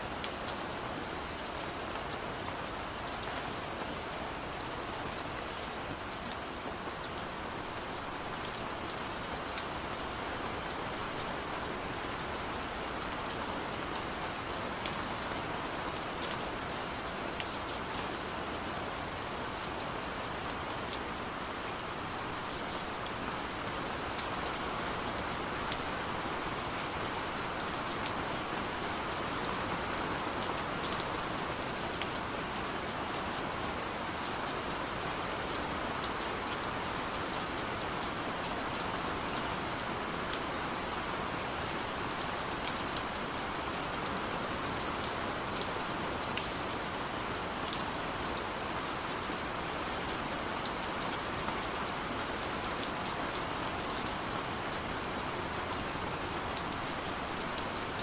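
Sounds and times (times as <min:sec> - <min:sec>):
hiss of rainfall: 0:00.0 - 0:58.0.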